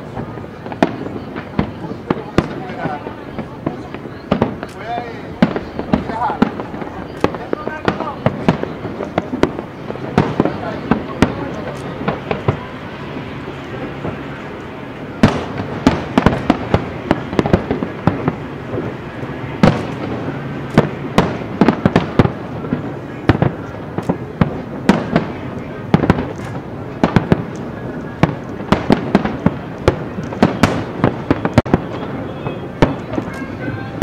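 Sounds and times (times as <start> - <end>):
fireworks booming: 0.0 - 34.0.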